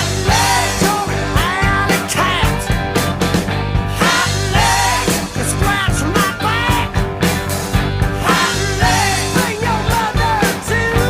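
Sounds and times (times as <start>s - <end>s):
rock music with singing: 0.0s - 11.0s.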